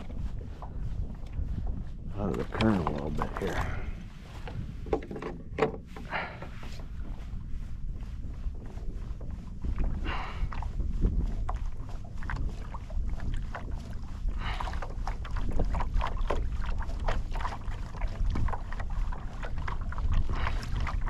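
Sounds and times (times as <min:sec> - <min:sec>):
water splashing around kayak: 0:00.0 - 0:21.0
wind rumble on microphone: 0:00.0 - 0:21.0.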